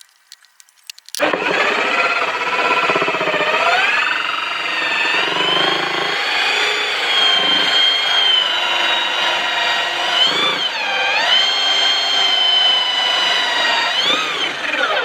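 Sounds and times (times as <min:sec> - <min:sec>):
electric drill whining: 0:01.2 - 0:15.0.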